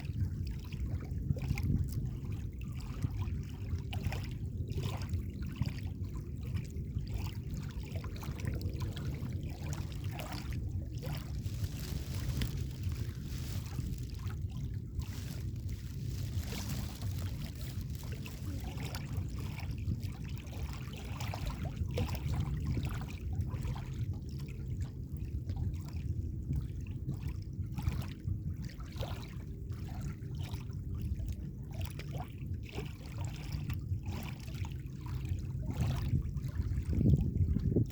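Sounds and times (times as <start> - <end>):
small waves lapping on shore: 0.0 - 37.9
steady low rumble: 0.0 - 37.9.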